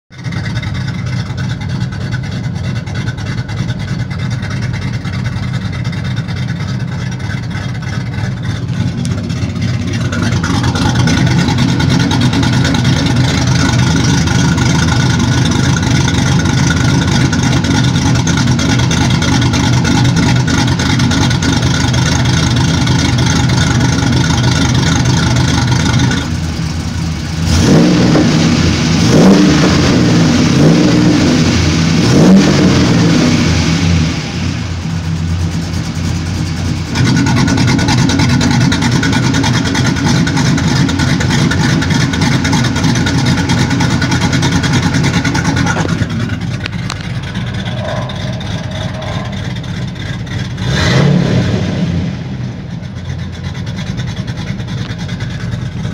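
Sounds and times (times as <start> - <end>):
car engine idling and revving: 0.1 - 55.9.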